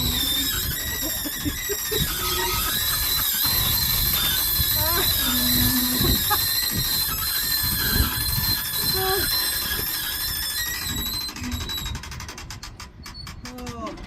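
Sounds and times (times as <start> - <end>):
furniture squeaks and knocks: 0.0 - 14.0.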